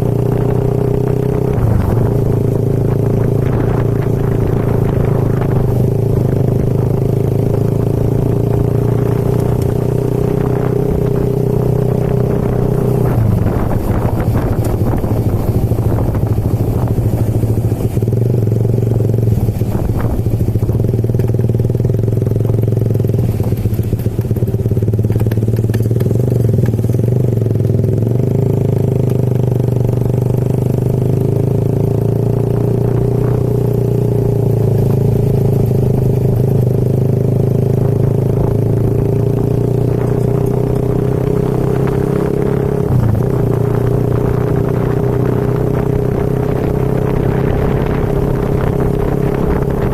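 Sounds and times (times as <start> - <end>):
motorcycle engine droning: 0.0 - 49.9
road noise: 0.0 - 49.9.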